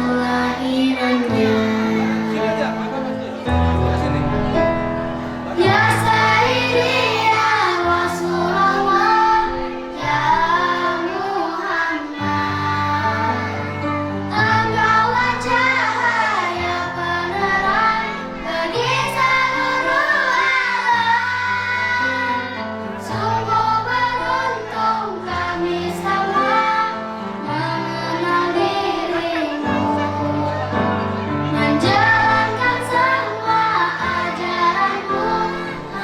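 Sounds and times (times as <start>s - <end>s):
children's choir singing: 0.0s - 36.0s.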